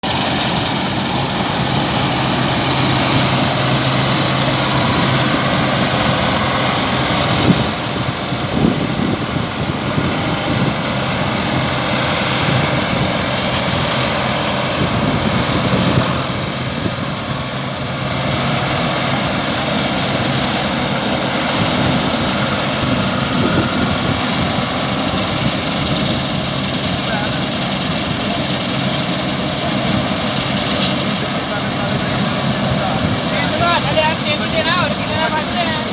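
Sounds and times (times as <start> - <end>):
farm machinery engine running: 0.0 - 35.9.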